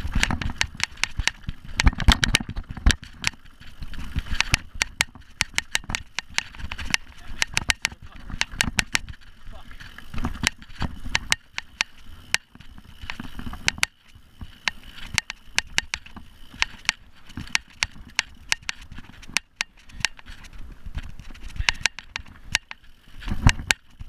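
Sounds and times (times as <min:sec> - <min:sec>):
bike frame clicks and clacks: 0:00.0 - 0:24.0.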